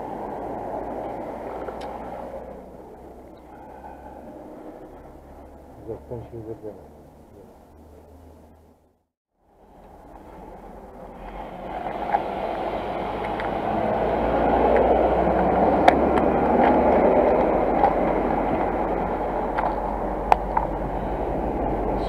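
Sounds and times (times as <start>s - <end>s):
train passing with rushing rumble: 0.0s - 7.4s, 9.5s - 22.0s.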